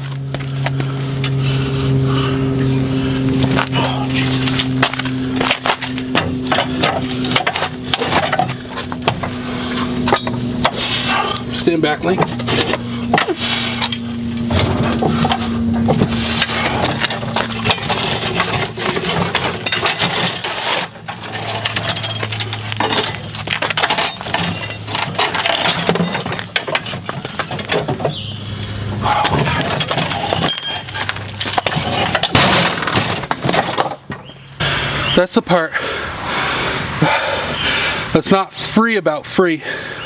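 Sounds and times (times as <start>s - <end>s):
lawn mower clattering and scraping: 0.0s - 34.5s.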